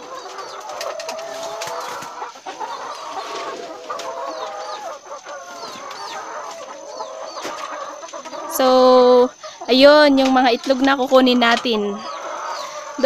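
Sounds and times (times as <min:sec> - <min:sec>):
hens clucking and calling: 0:00.0 - 0:13.0.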